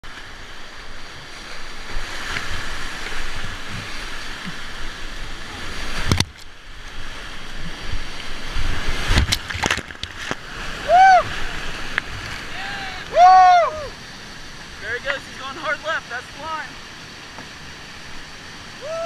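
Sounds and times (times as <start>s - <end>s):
rushing whitewater: 0.1s - 19.0s.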